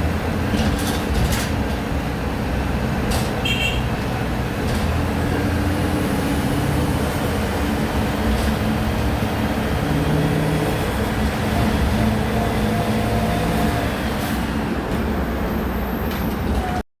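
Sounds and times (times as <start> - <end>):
bus engine droning: 0.0 - 16.9.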